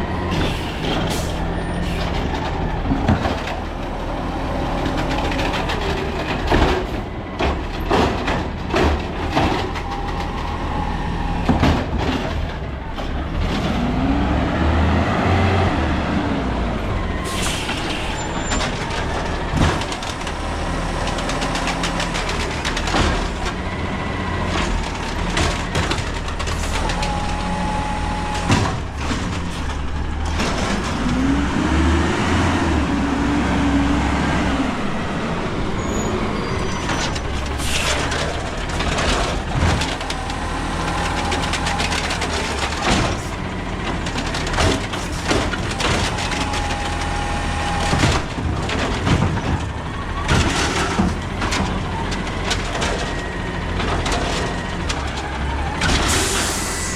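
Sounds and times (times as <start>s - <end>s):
garbage truck engine humming: 0.0s - 56.9s.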